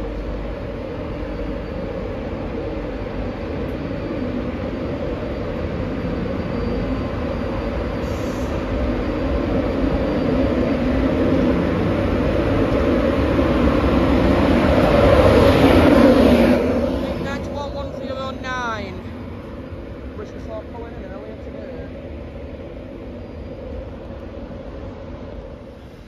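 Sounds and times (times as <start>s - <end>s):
train passing on rails: 0.0s - 26.0s.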